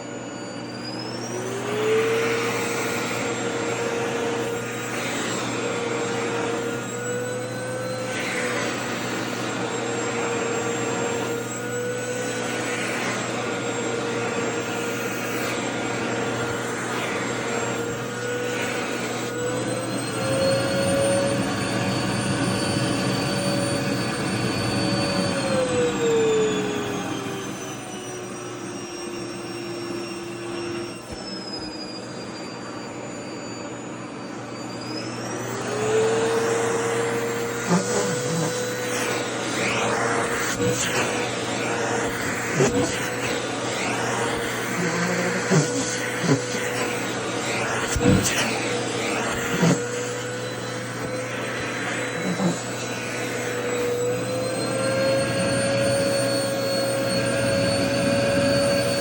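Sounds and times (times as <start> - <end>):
vacuum cleaner motor whining: 0.0 - 59.0.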